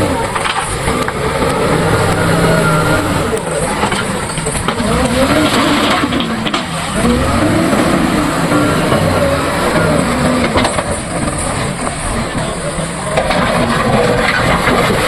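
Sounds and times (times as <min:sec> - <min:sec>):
diesel engine running hard: 0:00.0 - 0:15.0.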